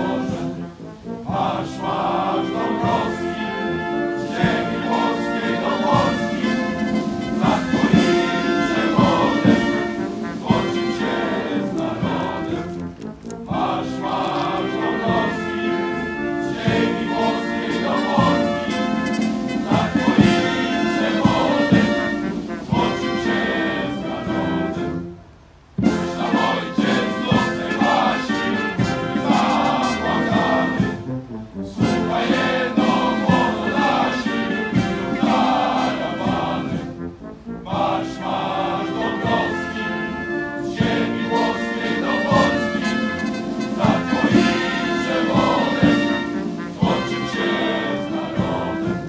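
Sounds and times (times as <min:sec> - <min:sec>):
choir singing: 0:00.0 - 0:25.1, 0:25.8 - 0:49.0
brass and orchestra: 0:00.0 - 0:49.0.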